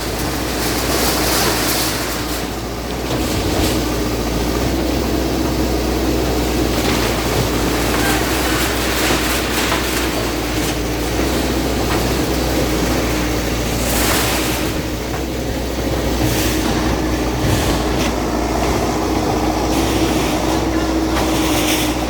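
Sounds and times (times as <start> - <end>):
diesel earthmover engine running: 0.0 - 22.0.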